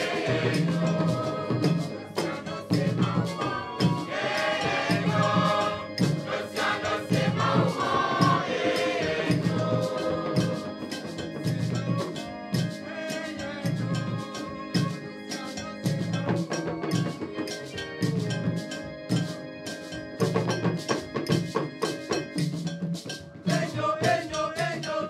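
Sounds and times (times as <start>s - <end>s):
youth choir singing: 0.0s - 19.4s, 23.5s - 25.0s
hand drums beating: 0.0s - 25.0s.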